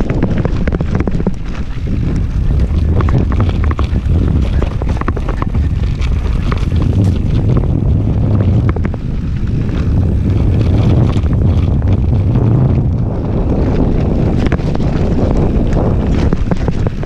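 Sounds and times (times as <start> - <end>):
bike clicks and rattles: 0.0 - 17.0
constant low rumble: 0.0 - 17.0
wind rushing over microphone: 0.0 - 17.0.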